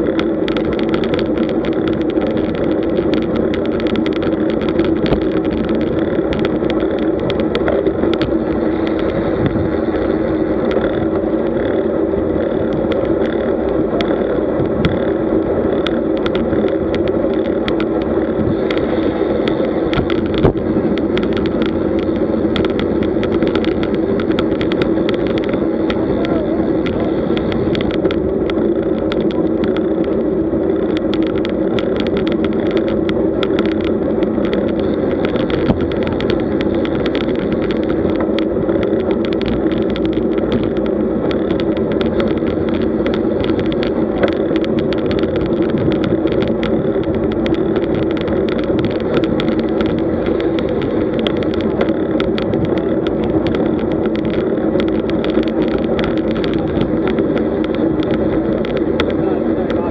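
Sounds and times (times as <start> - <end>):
bike clicks and rattles: 0.0 - 59.9
tyres rumbling on asphalt: 0.0 - 59.9
wind noise: 0.0 - 59.9.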